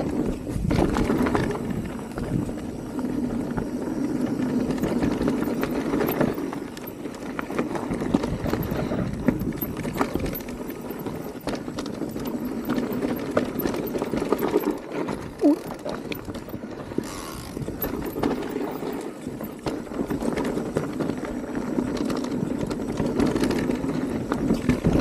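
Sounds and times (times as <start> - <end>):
bike rattling over bumps: 0.0 - 25.0.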